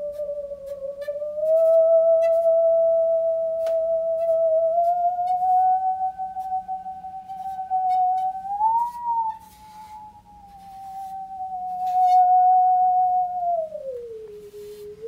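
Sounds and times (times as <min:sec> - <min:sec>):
musical saw singing tone: 0:00.0 - 0:15.0.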